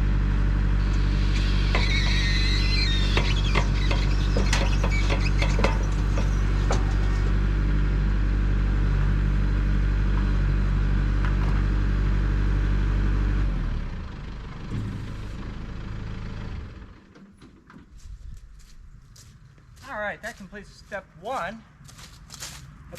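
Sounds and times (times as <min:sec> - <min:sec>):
engine idling: 0:00.0 - 0:19.8.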